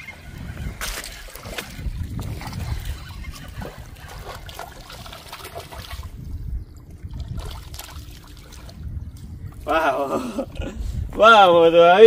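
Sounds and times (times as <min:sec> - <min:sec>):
water trickling and splashing: 0:00.0 - 0:10.0
steady low rumble: 0:01.6 - 0:12.0.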